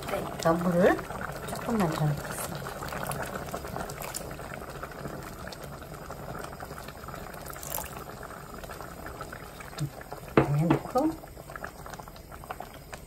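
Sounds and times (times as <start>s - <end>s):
porridge bubbling in a pot: 0.0s - 13.0s
water pouring: 0.0s - 13.0s.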